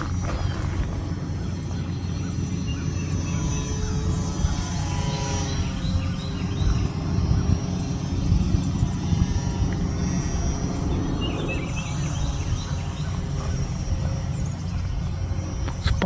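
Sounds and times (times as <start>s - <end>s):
wind buffeting microphone: 0.0s - 2.5s, 3.4s - 16.0s
model plane motor whine: 0.0s - 16.0s.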